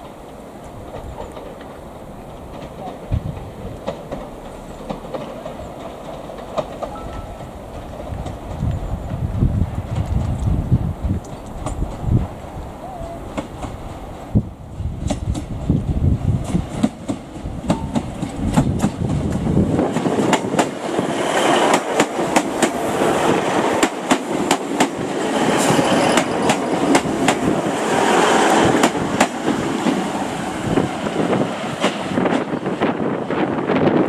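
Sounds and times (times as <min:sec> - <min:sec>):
wheels clicking over rail joints: 0:00.0 - 0:12.4, 0:15.0 - 0:32.9
train coaches rushing past: 0:00.0 - 0:34.0
train rumble: 0:00.0 - 0:34.0.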